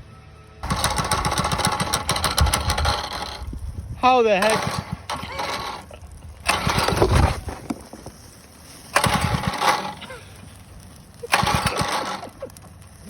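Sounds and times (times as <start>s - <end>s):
small gasoline engine bursts: 0.0s - 13.0s.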